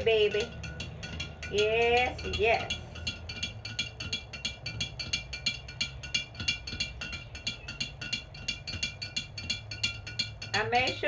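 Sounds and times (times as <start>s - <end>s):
metal spoon clinking in container: 0.0s - 11.0s.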